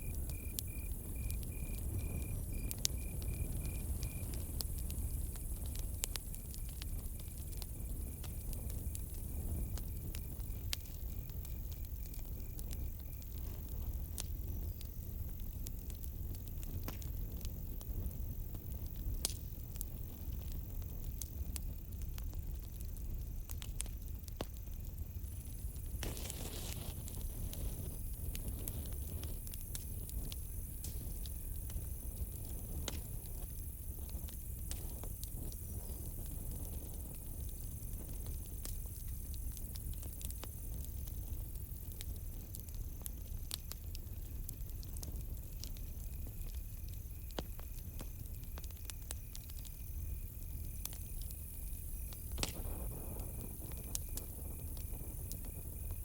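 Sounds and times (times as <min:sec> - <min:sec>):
crickets chirping: 0:00.0 - 0:13.2, 0:20.6 - 0:44.4, 0:45.1 - 0:56.0
campfire crackling and popping: 0:00.0 - 0:56.0
lower-pitched cricket chirping: 0:00.0 - 0:56.0.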